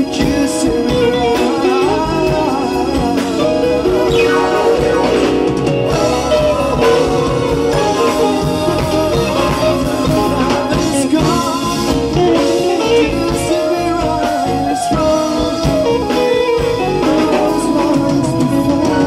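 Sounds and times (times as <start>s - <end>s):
guitar: 0.0s - 19.0s
soft rock band playing: 0.0s - 19.0s.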